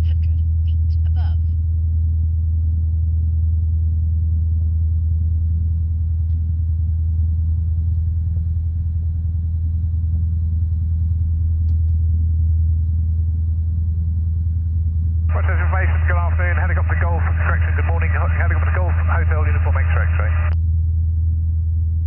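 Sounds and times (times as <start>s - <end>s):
light aircraft engine drone: 0.0s - 22.0s.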